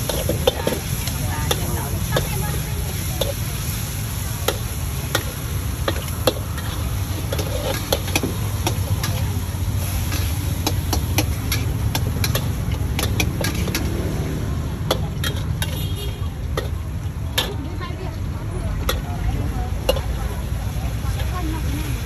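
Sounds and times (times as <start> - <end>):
gas burner rumble: 0.0 - 22.0
metal spatula scraping wok: 0.0 - 22.0.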